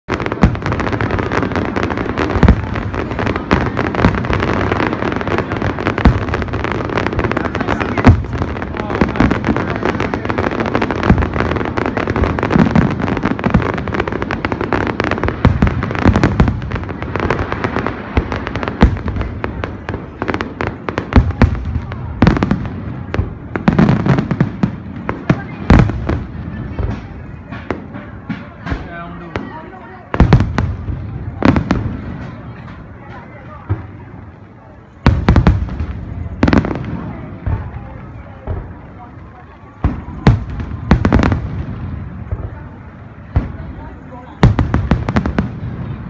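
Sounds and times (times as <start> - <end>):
fireworks crackle: 0.0 - 46.0.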